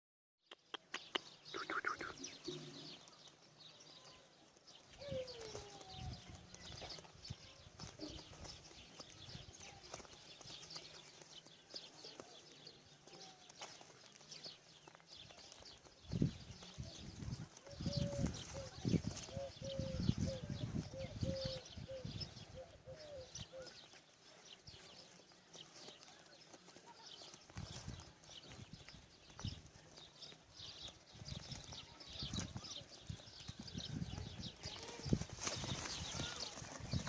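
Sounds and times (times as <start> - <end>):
pigeons chirping: 0.6 - 37.0.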